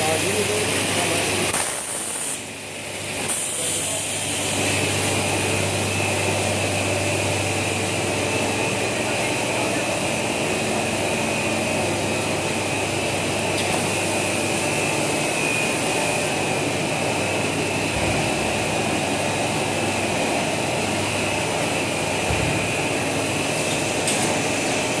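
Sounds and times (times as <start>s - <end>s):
high machine whine: 0.0s - 25.0s
machine whirring and hissing: 0.0s - 25.0s.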